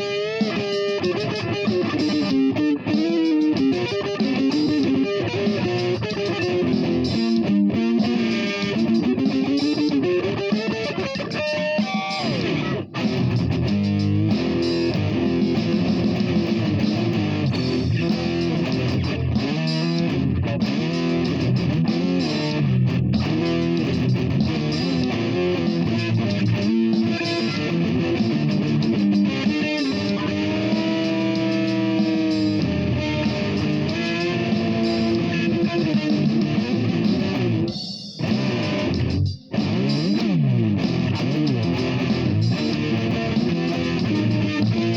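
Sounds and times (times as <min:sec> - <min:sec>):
electric guitar lead lines: 0:00.0 - 0:44.9.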